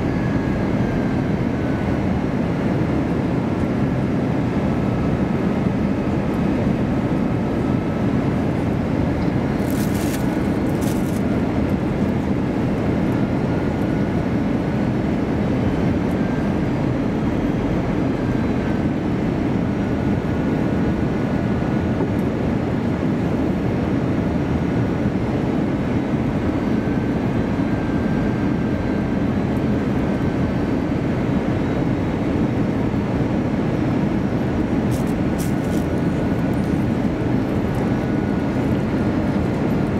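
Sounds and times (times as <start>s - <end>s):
faint wavering whine: 0.0s - 21.4s, 25.8s - 39.9s
airliner engines droning: 0.0s - 39.9s.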